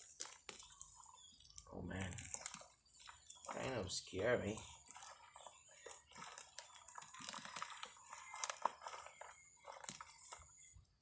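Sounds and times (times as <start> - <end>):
digging through soil by hand: 0.0 - 11.0.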